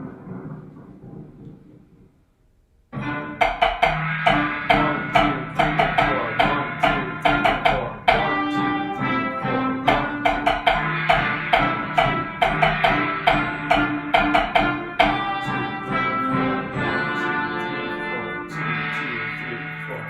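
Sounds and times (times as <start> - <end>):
struck percussion hits: 3.0 - 20.0
sustained brass chords: 3.0 - 20.0.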